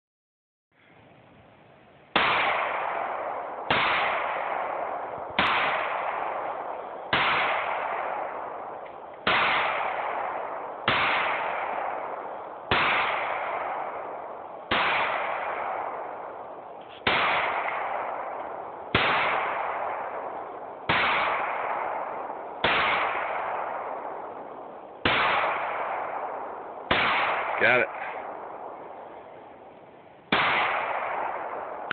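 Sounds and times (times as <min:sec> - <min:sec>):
pistol shots with echo: 0:02.1 - 0:29.4, 0:30.3 - 0:31.9.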